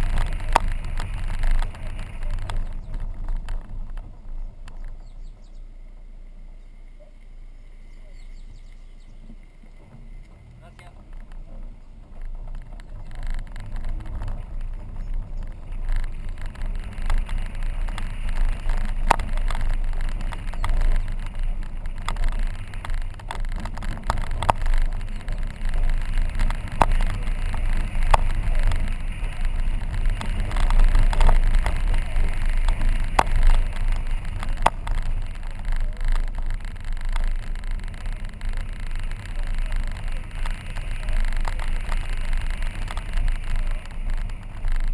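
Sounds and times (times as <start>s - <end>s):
car driving on dirt road: 0.0s - 44.9s
clicks and knocks from road: 0.0s - 44.9s.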